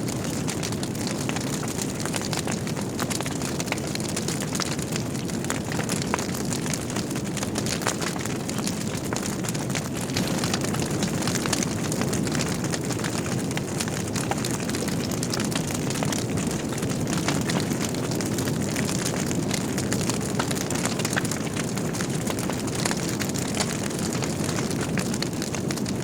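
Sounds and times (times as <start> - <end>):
fire crackles and pops: 0.0 - 26.0
fire flame rumble: 0.0 - 26.0.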